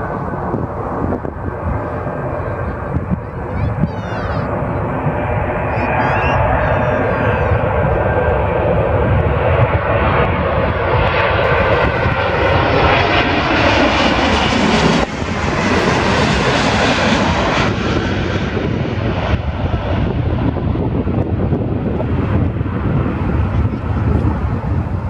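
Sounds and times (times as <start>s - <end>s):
jet airliner roar passing overhead: 0.0s - 25.0s.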